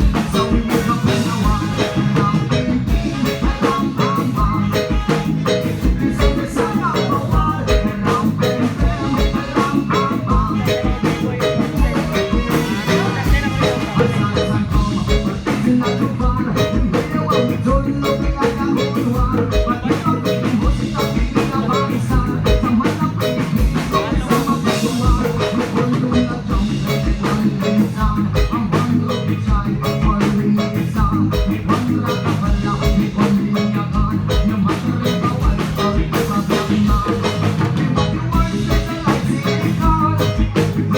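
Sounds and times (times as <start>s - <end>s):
driving drum beat: 0.0s - 40.9s
melodic instrument lines: 0.0s - 40.9s.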